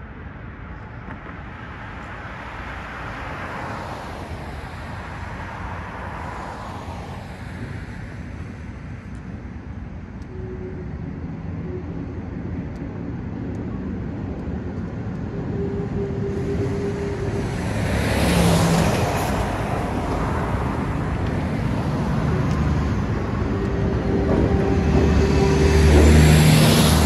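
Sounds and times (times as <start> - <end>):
vehicle engine rumble approaching: 0.6 - 27.0.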